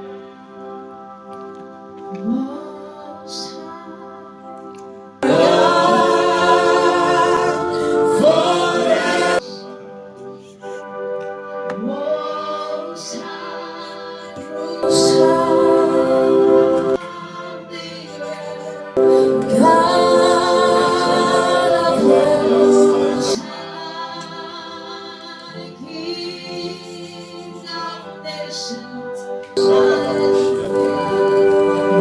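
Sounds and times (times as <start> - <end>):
female choir singing worship music: 1.9 - 32.0.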